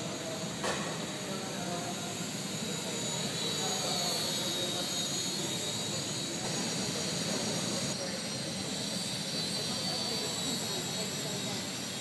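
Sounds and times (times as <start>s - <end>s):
small electric motor and propeller whine: 0.0s - 12.0s.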